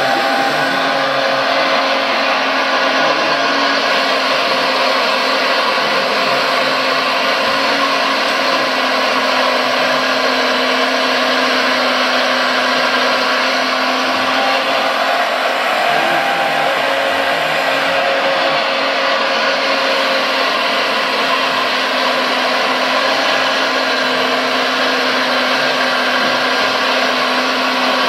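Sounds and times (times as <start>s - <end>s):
diesel engine drone: 0.0s - 28.0s.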